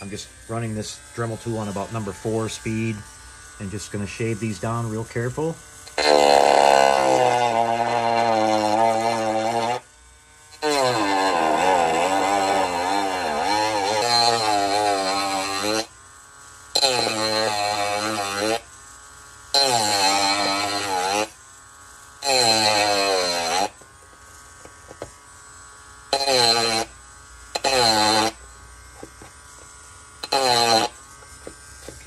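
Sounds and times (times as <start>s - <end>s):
rotary tool grinding plastic: 0.0s - 32.0s.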